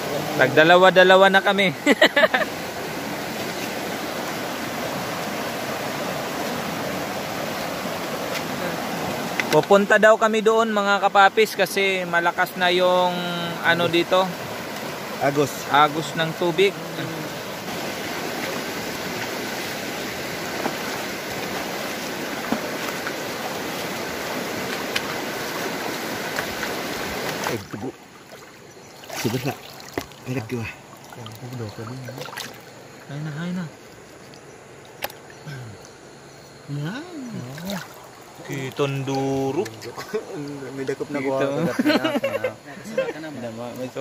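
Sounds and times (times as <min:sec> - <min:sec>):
river water rushing: 0:00.0 - 0:44.0.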